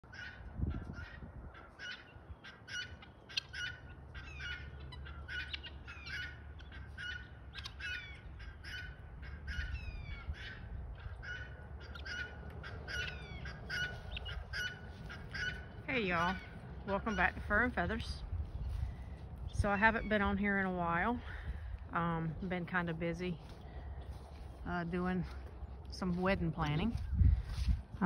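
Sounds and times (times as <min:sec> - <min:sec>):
birds calling harshly: 0:00.0 - 0:28.0.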